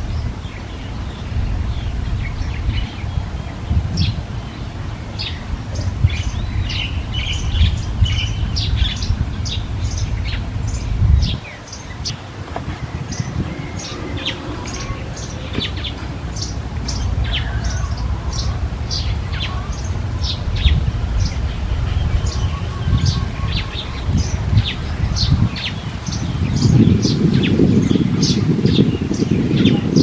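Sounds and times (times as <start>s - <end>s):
low rumbling noise: 0.0s - 30.0s
small birds chirping: 0.0s - 30.0s.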